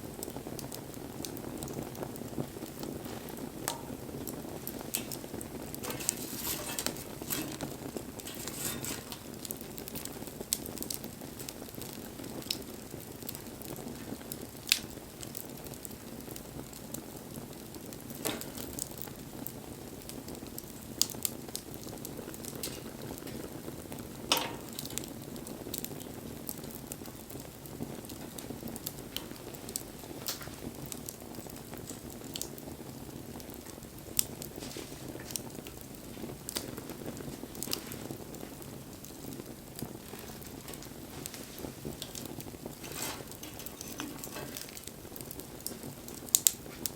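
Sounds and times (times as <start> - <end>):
bonfire crackling and popping: 0.0 - 46.9.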